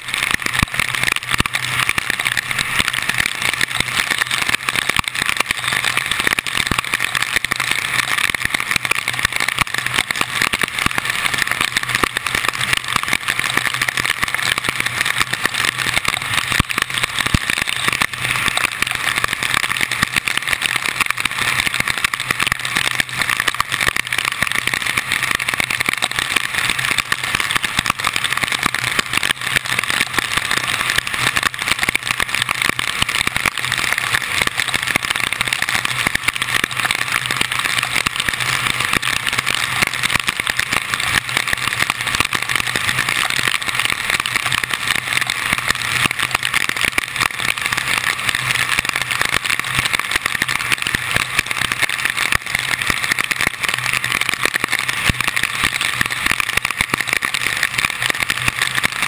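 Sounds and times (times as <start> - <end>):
rain ticking on camera: 0.0 - 59.0.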